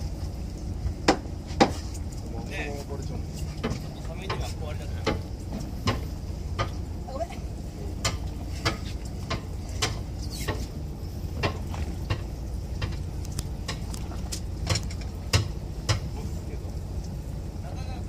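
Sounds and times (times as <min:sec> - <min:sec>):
boat rumble: 0:00.0 - 0:18.0.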